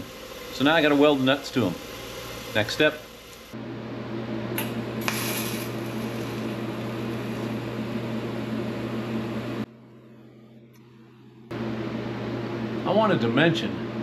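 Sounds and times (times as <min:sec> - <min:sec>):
electric shop machine humming: 0:00.0 - 0:14.0.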